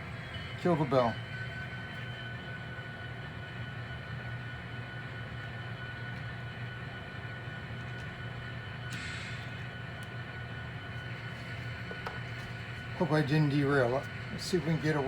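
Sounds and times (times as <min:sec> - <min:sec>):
diesel engine rumble with whine: 0:00.0 - 0:15.0.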